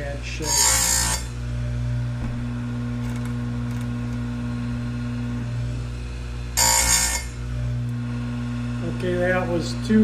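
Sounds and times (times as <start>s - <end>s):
electric motor humming: 0.0s - 10.0s.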